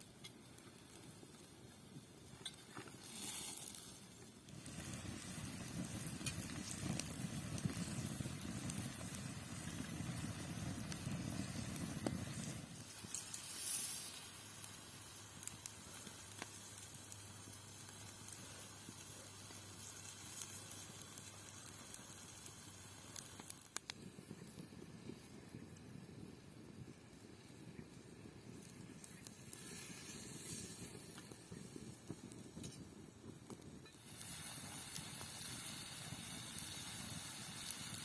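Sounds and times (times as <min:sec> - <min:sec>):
fire crackling: 0:00.0 - 0:38.0
food sizzling over open fire: 0:00.0 - 0:38.0.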